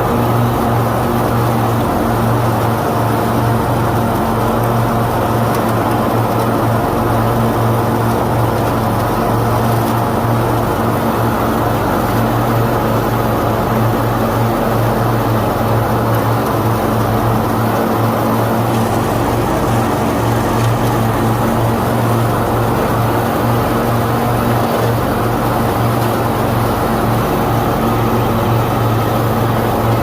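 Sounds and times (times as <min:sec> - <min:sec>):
mower engines droning: 0:00.0 - 0:30.0.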